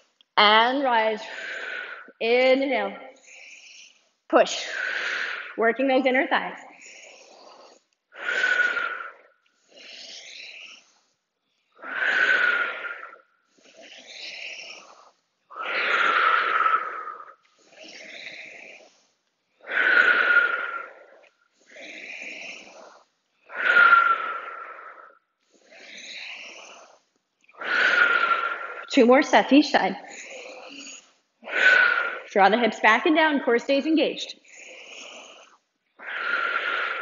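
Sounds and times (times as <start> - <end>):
woman breathing hard: 1.2 - 2.2, 3.0 - 5.6, 6.6 - 11.1, 11.8 - 19.0, 19.6 - 32.4, 34.4 - 37.0.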